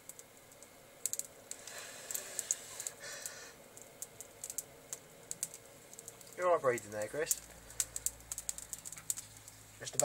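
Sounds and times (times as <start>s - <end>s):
electric arcing crackling clicks: 0.0s - 10.0s.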